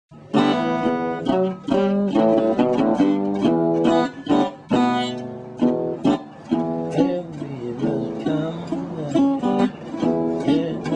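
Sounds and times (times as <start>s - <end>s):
resonator guitar playing blues: 0.1s - 10.9s.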